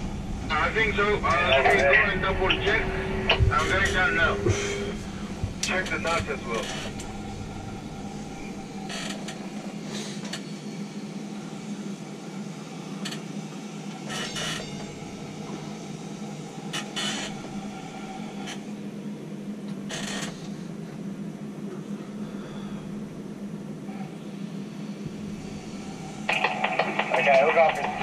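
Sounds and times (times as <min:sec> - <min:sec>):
crane mechanical hum: 0:00.0 - 0:28.0.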